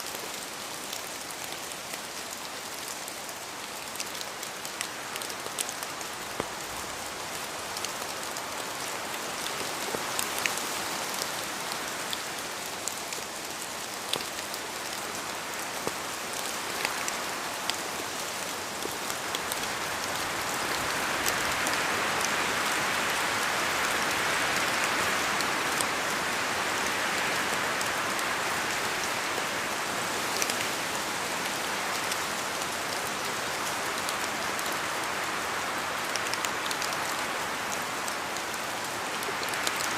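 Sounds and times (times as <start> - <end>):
rain pattering on hard surface: 0.0 - 39.9.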